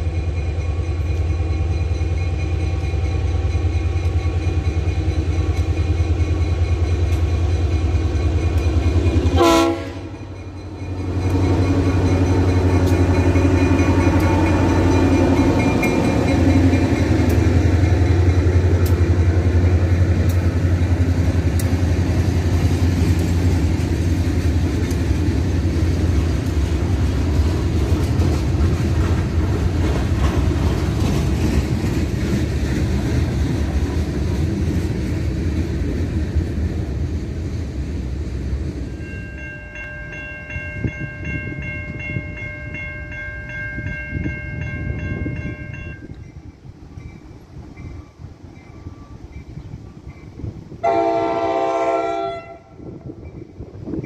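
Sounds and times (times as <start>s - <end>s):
railroad crossing bell ringing: 0.0s - 30.0s, 38.6s - 52.6s
diesel locomotive engine rumble: 0.0s - 54.0s.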